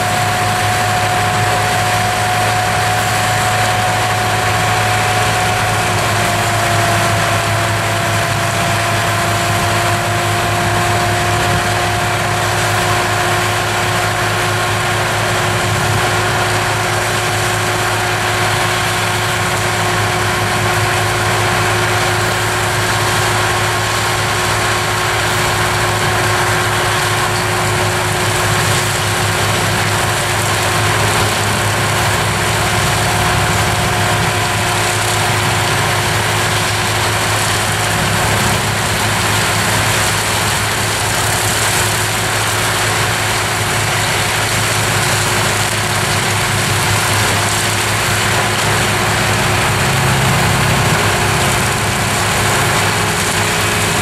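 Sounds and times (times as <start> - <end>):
constant whine: 0.0 - 54.0
mulcher grinding wood: 0.0 - 54.0
tractor engine under load: 0.0 - 54.0.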